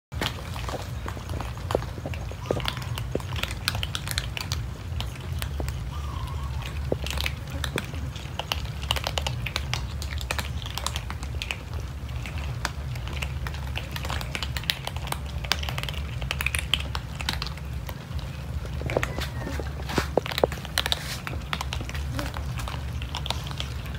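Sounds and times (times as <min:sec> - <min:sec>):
cats crunching dry kibble: 0:00.1 - 0:23.9
steady low rumble: 0:00.1 - 0:23.9.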